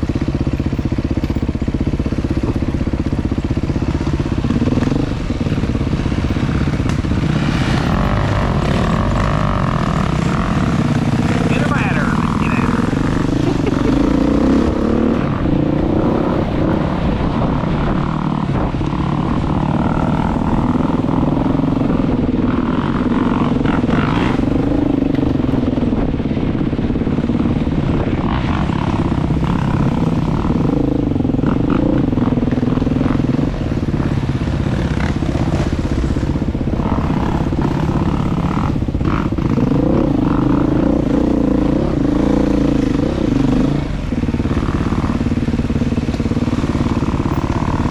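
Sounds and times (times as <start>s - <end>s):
motorbike engine running: 0.0s - 47.9s
wind rumble on microphone: 0.0s - 47.9s.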